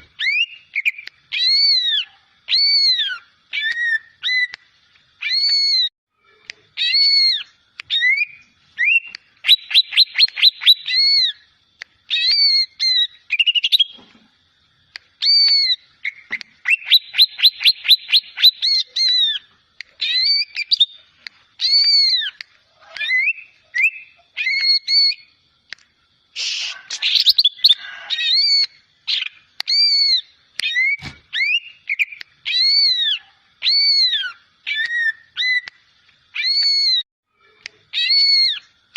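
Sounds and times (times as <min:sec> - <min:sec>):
bird whistled song: 0:00.0 - 0:05.9, 0:06.8 - 0:11.5, 0:12.1 - 0:14.0, 0:15.2 - 0:25.4, 0:26.4 - 0:37.0, 0:37.9 - 0:38.7.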